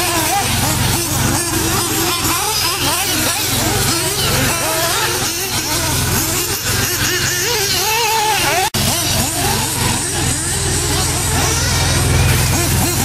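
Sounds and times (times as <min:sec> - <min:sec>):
model car engines buzzing and revving: 0:00.0 - 0:13.0.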